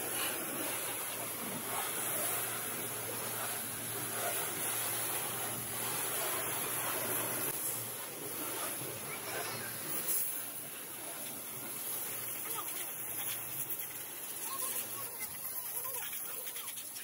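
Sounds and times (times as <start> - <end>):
steady low hum: 0.0 - 16.0
pressure washer spray hissing: 0.0 - 17.0.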